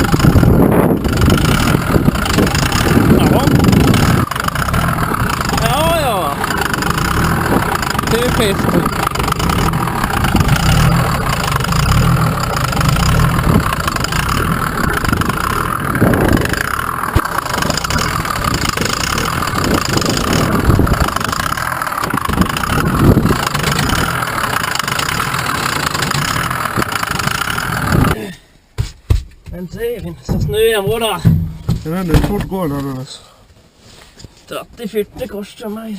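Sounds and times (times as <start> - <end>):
sharp engine knocks: 0.0 - 28.2, 28.8 - 33.0
diesel truck engine running: 0.0 - 28.3, 29.6 - 32.7.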